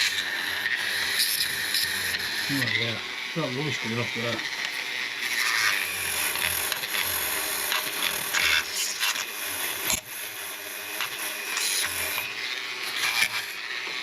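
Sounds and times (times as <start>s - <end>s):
abrasive tool scrubbing metal: 0.0s - 14.0s.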